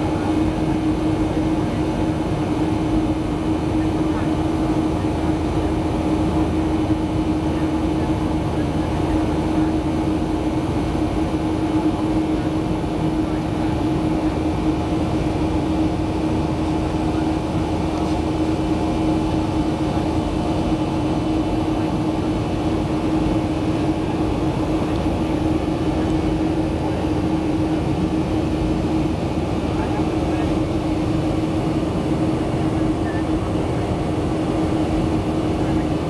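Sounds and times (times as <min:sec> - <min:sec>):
jet engines droning in cabin: 0:00.0 - 0:36.0.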